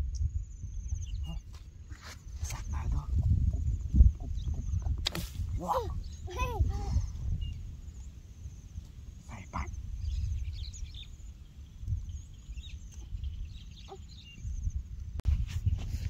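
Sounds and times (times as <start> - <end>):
wind rumble on microphone: 0.0 - 16.0
bird chirps: 0.4 - 14.8.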